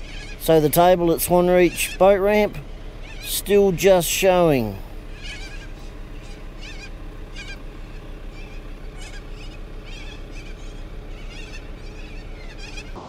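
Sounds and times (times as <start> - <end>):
birds chirping: 0.0 - 13.0
low background rush: 0.0 - 13.0.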